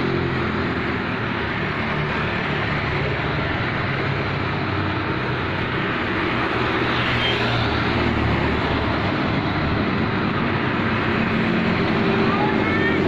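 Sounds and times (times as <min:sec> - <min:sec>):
vehicles passing by: 0:00.0 - 0:13.0.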